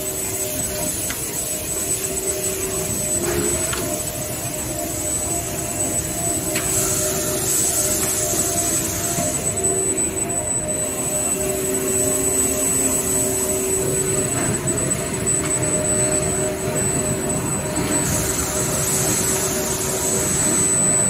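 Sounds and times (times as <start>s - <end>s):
production line machine noise: 0.0s - 21.0s
thin high machine whine: 0.0s - 21.0s.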